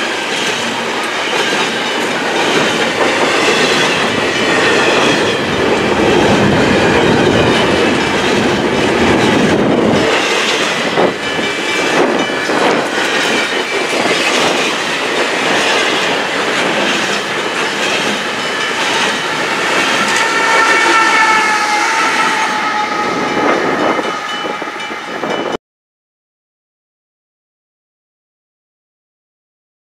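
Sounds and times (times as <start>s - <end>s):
freight train wheels clattering: 0.0s - 25.6s
wheels squealing: 0.3s - 25.4s.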